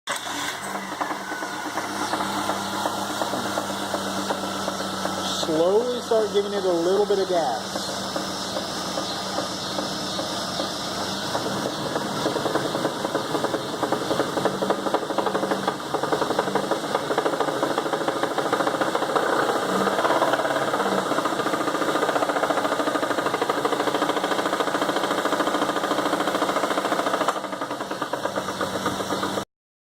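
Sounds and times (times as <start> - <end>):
engine running with rhythmic knock: 0.1 - 29.5.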